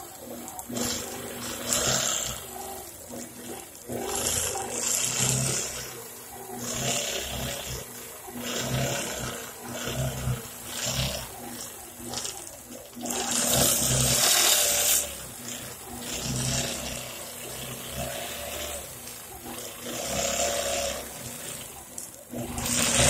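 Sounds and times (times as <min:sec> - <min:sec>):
quilting machine motor whine: 0:00.0 - 0:23.0.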